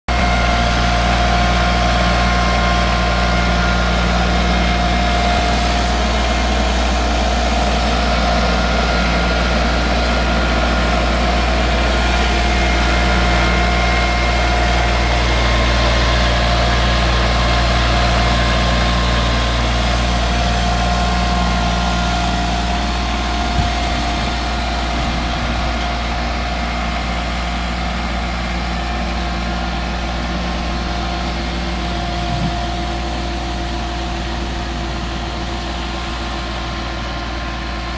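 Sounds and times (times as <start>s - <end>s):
tractor diesel engine running: 0.1s - 37.9s
trailer clunk: 0.1s - 37.9s.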